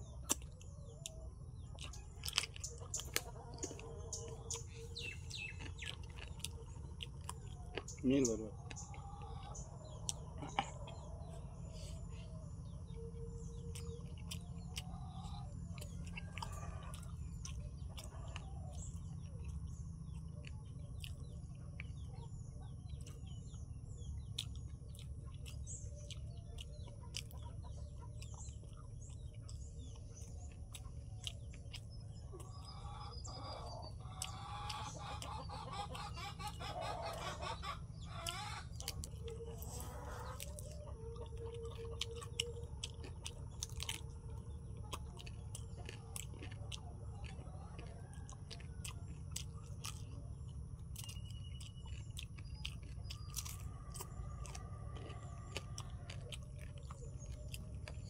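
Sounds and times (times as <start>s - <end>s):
chickens clucking: 0.0s - 58.0s
person chewing food: 0.0s - 58.0s
small birds chirping: 0.0s - 58.0s
steady low hum: 0.0s - 58.0s.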